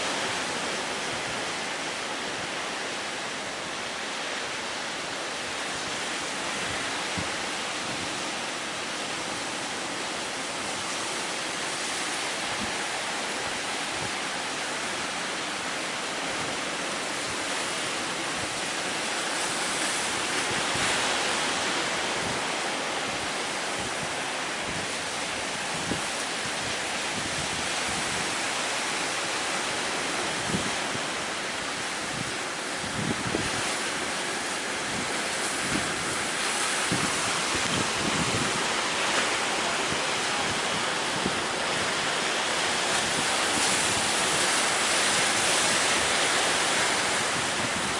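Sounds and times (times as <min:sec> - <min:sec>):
sea surf roaring: 0:00.0 - 0:47.9
strong wind: 0:00.0 - 0:47.9.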